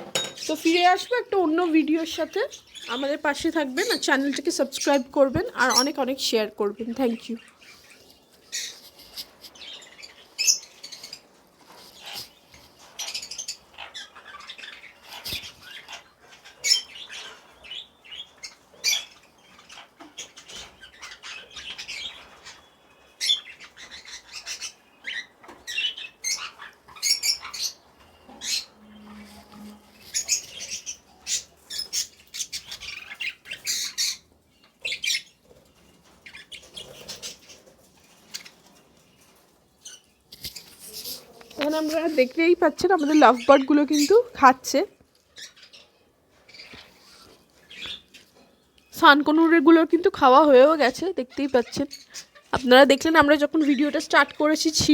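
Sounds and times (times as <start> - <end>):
parrots chirping and squawking: 0.0 - 48.6, 49.7 - 54.9.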